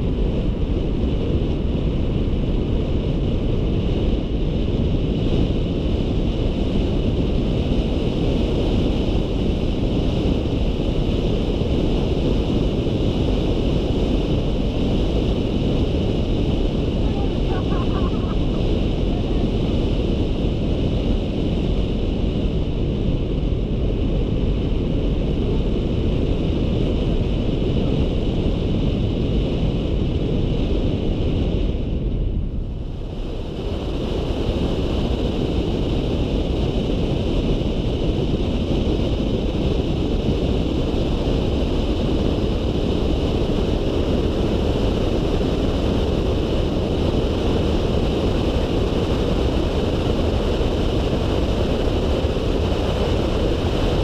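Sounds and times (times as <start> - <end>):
wind rushing over camera: 0.0 - 54.0.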